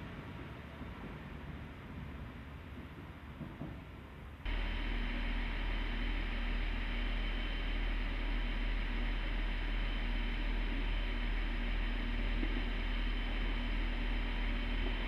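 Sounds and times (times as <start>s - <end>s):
standing train humming: 0.0s - 15.0s.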